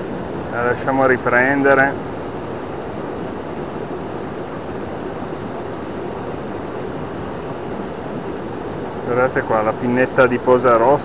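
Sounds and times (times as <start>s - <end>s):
mountain water rushing: 0.0s - 11.0s.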